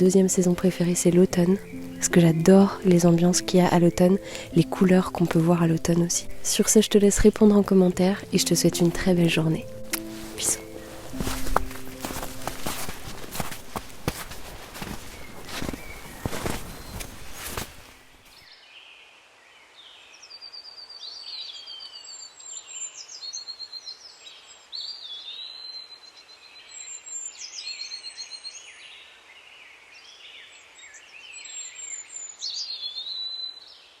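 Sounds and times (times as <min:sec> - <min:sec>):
faint outdoor hiss: 0:00.0 - 0:34.0
wild birds singing: 0:00.0 - 0:34.0.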